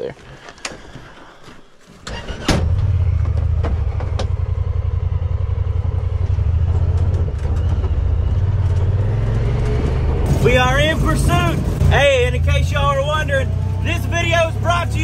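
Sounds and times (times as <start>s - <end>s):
utility vehicle engine idling: 2.1s - 15.0s.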